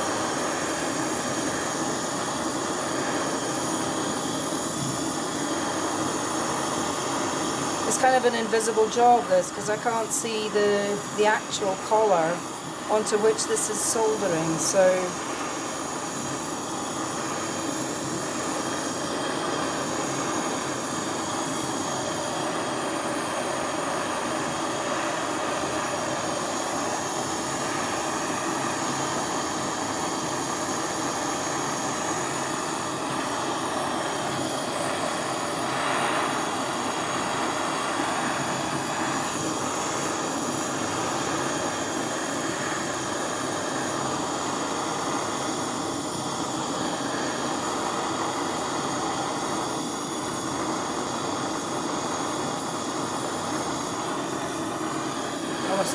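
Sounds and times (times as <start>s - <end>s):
gas torch flame hissing: 0.0s - 55.9s.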